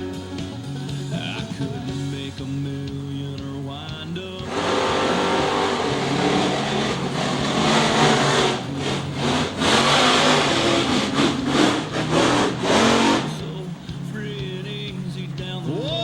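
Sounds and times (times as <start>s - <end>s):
monster truck engines at full throttle: 0.0s - 16.0s.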